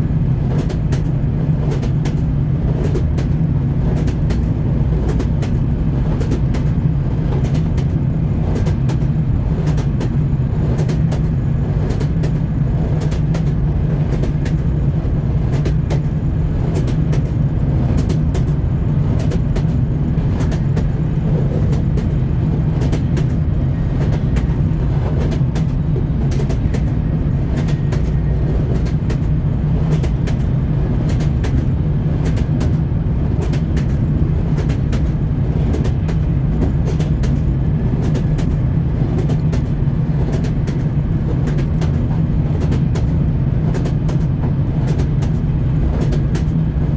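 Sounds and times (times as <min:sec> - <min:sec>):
train low rumble: 0:00.0 - 0:46.9
train wheels clicking on rail joints: 0:00.4 - 0:46.9.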